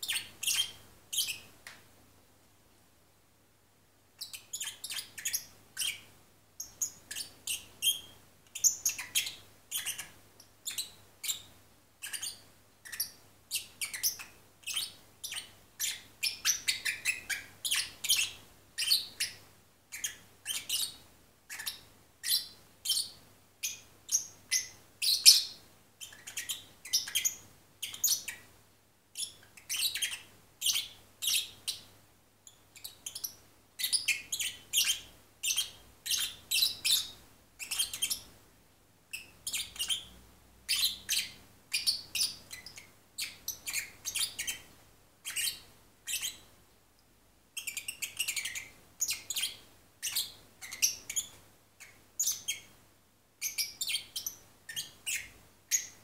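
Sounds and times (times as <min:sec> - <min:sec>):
lovebird chirping: 0:00.0 - 0:01.5, 0:04.2 - 0:28.5, 0:29.2 - 0:31.9, 0:32.5 - 0:38.3, 0:39.1 - 0:46.5, 0:47.6 - 0:52.8, 0:53.4 - 0:56.0.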